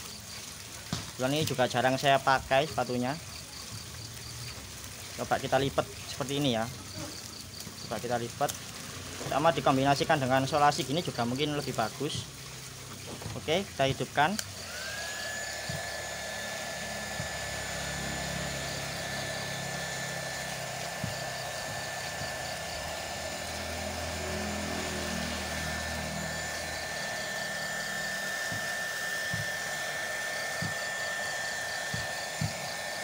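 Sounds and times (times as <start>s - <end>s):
hot air gun running: 0.0s - 33.0s.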